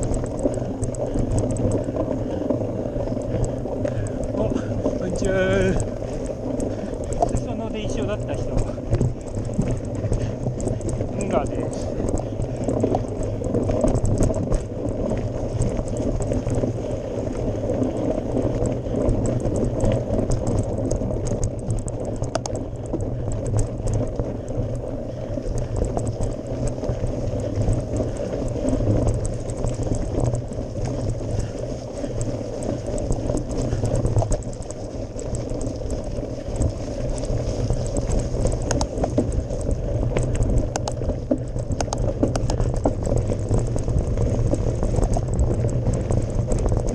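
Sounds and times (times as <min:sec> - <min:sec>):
bike tyres crunching on gravel: 0:00.0 - 0:46.9
steady low rumble: 0:00.0 - 0:46.9.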